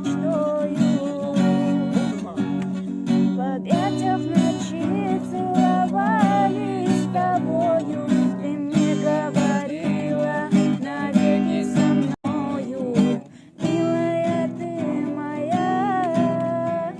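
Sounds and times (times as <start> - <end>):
acoustic guitar strumming: 0.0 - 16.9.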